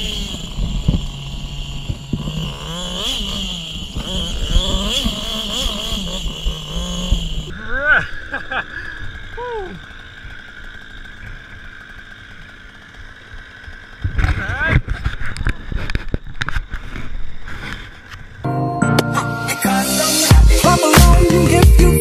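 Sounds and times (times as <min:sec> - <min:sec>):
motocross bike engine revving: 0:00.0 - 0:18.4.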